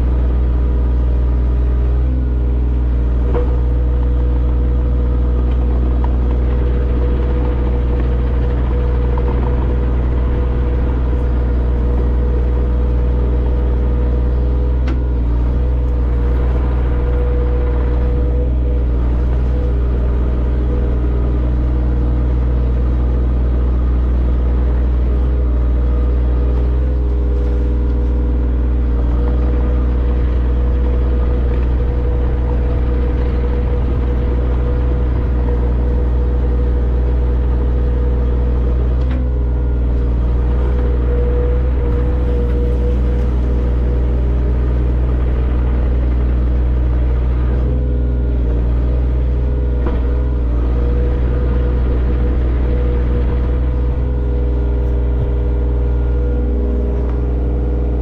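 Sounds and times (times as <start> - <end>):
large engine droning: 0.0 - 58.0.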